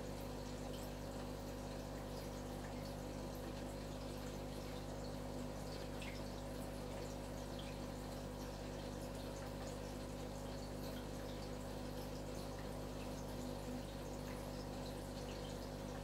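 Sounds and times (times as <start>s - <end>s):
aquarium filter humming: 0.0s - 16.0s
small drip-like ticks: 0.0s - 16.0s
trickling water: 0.0s - 16.0s.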